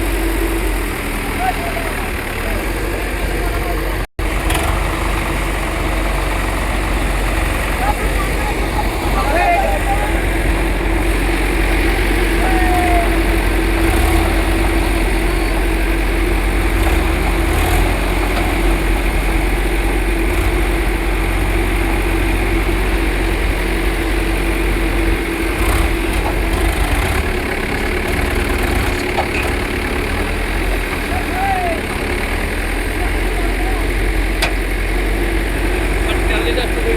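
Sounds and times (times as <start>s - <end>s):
tractor engine idling: 0.0s - 36.9s.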